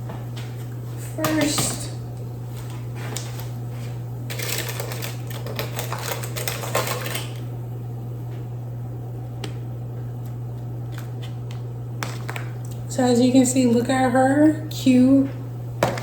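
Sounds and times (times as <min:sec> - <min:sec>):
low appliance hum: 0:00.0 - 0:16.0.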